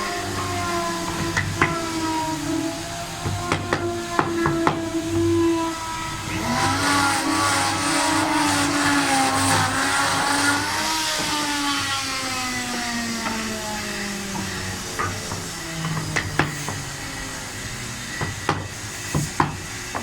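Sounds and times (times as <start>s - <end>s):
motor-driven machine humming: 0.0s - 20.0s.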